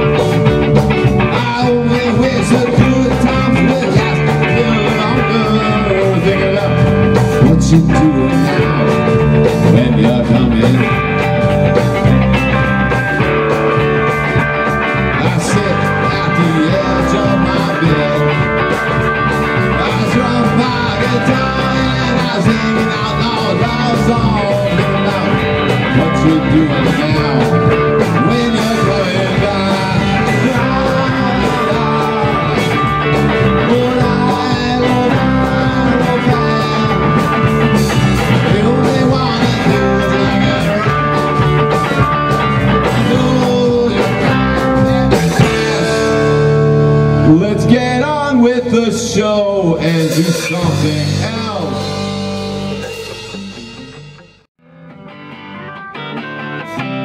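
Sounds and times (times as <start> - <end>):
bass guitar: 0.0 - 57.0
distorted electric guitars: 0.0 - 57.0
drum kit beat: 0.0 - 57.0.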